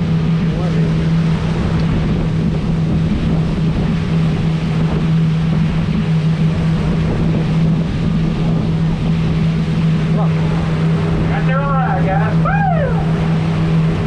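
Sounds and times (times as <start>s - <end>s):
boat engine humming: 0.0s - 14.0s
water rushing past hull: 0.0s - 14.0s
wind on microphone: 0.0s - 14.0s.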